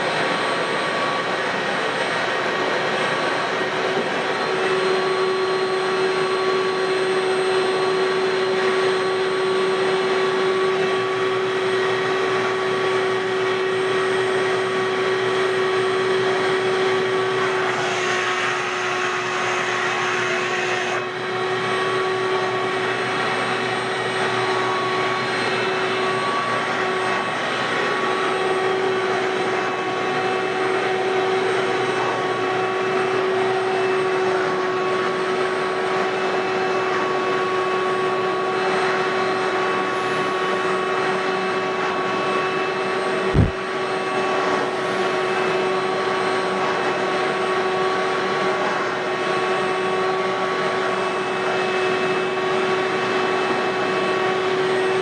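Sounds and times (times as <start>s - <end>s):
shop vacuum whining: 0.0s - 55.0s.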